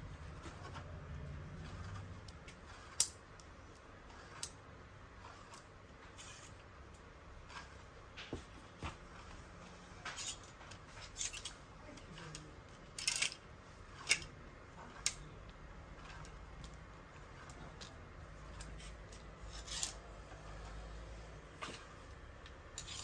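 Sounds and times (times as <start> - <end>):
hangers scraping along clothes rail: 0.0 - 23.0.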